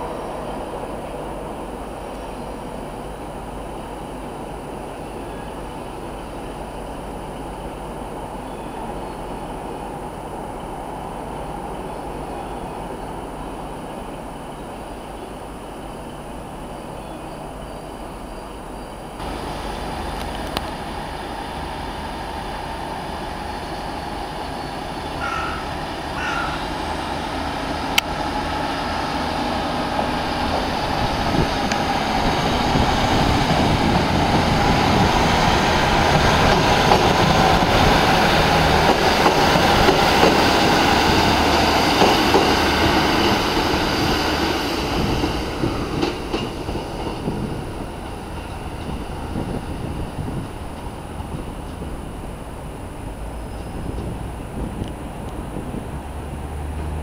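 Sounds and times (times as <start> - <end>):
diesel train passing: 0.0 - 57.0
train wheels rolling on rails: 0.0 - 57.0.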